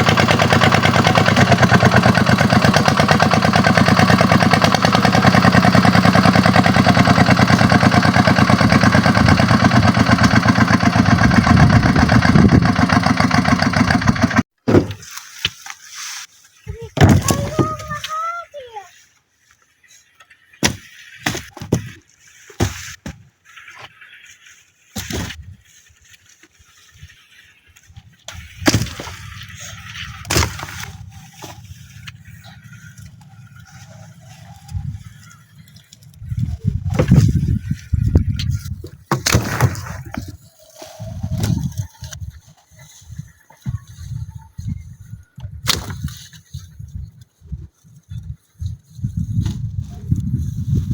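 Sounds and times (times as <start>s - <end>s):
tractor diesel engine running: 0.0s - 14.6s, 16.6s - 50.9s.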